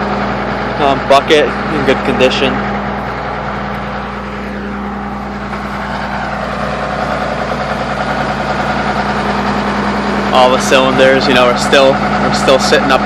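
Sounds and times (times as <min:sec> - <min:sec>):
excavator engine idling: 0:00.0 - 0:13.0.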